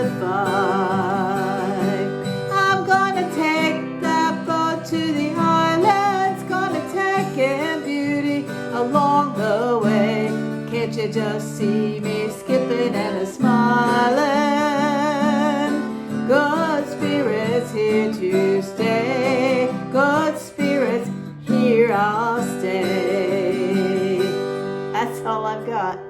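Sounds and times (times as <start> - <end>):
acoustic guitar strumming: 0.0 - 26.0
woman singing with vibrato: 0.0 - 26.0.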